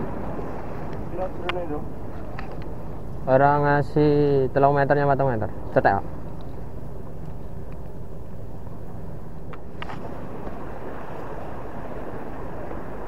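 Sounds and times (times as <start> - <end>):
sea noise: 0.0 - 13.0
wind rumble on microphone: 0.0 - 13.0.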